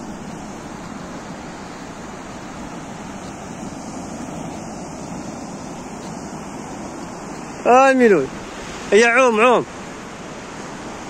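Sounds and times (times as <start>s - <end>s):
sea surf breaking on shore: 0.0s - 11.0s.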